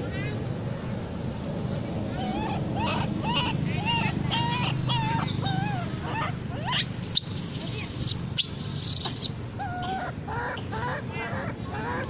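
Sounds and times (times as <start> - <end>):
baby monkey whimper calls: 2.1 - 12.0.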